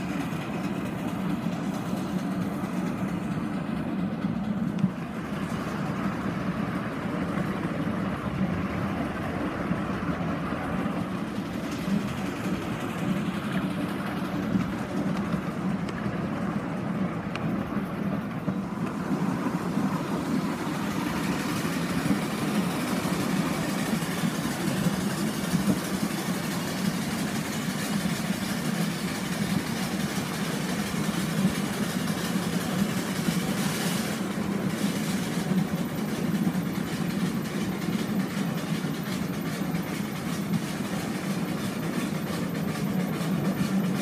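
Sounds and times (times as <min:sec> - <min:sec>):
miniature train rumbling: 0:00.0 - 0:44.0
wheels rattling on rails: 0:00.0 - 0:44.0.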